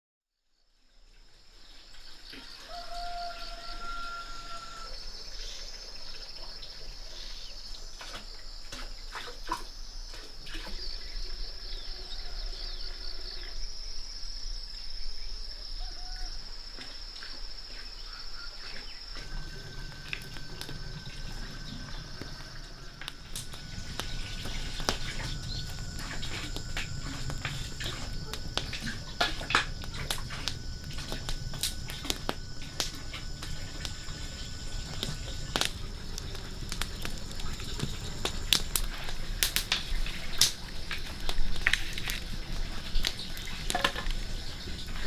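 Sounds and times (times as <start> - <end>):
high insect drone: 0.5 - 45.0.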